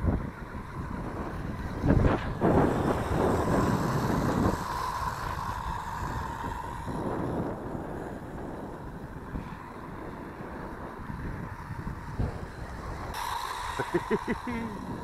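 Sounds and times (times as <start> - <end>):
toy car electric motors whining: 0.0 - 15.0
wind buffeting microphone: 0.0 - 15.0.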